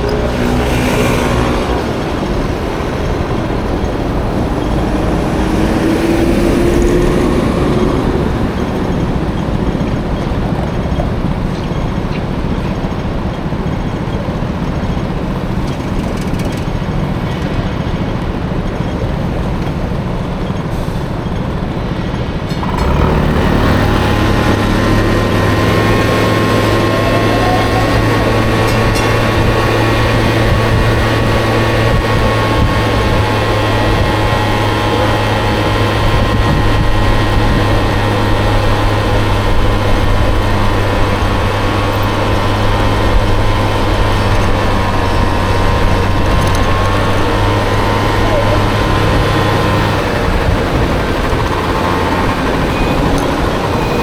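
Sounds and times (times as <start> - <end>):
road and wind rumble: 0.0 - 54.0
scooter engine: 0.0 - 54.0.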